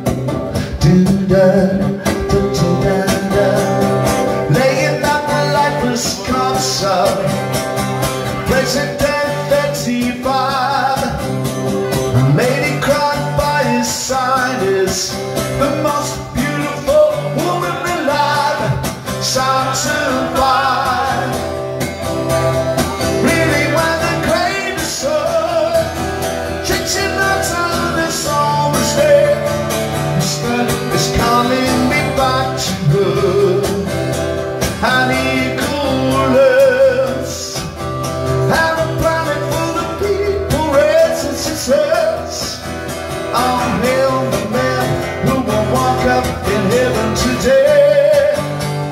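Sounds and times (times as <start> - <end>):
acoustic guitar strumming: 0.0 - 48.9
man singing: 0.0 - 48.9.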